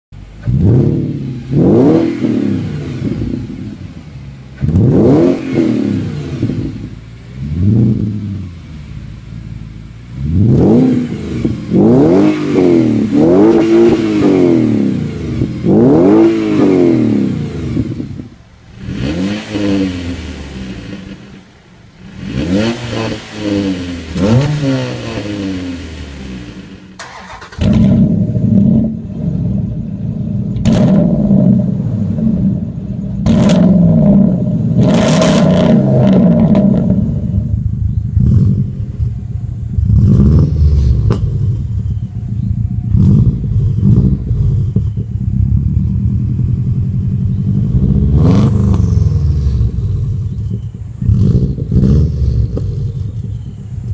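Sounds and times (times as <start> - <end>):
car engine revving: 0.1 - 53.9.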